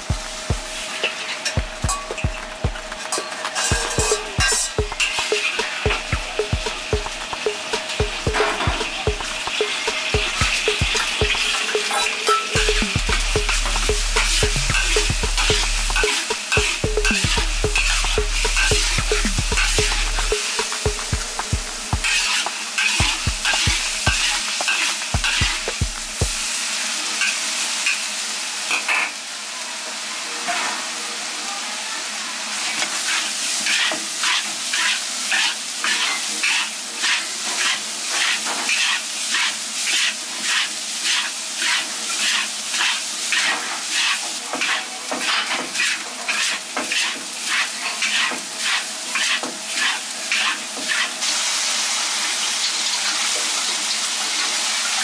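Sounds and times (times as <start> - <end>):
garlic sizzling in oil: 0.0 - 31.3, 32.0 - 55.0.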